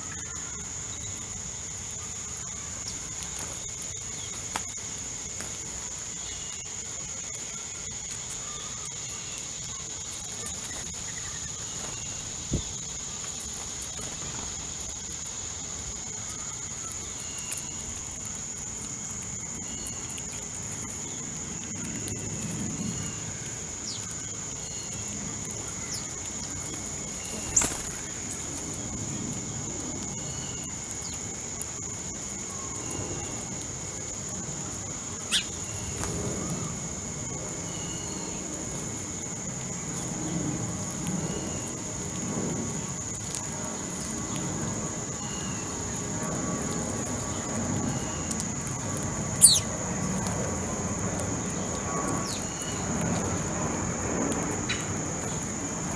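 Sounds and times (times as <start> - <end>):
high insect drone: 0.0 - 55.9
small birds chirping: 0.0 - 55.9.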